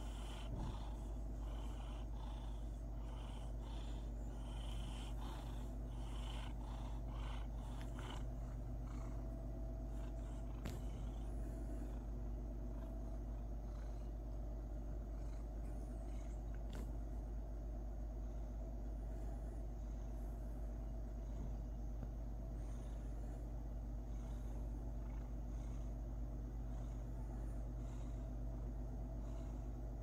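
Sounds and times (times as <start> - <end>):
cat purring: 0.0 - 17.0, 22.5 - 30.0.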